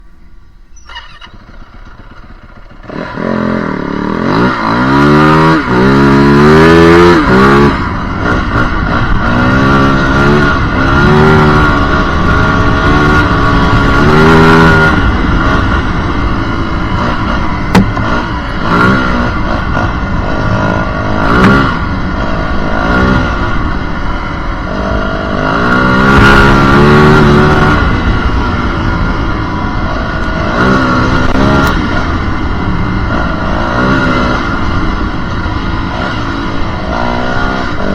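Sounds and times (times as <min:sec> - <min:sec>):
motorcycle engine revving: 0:00.7 - 0:37.9.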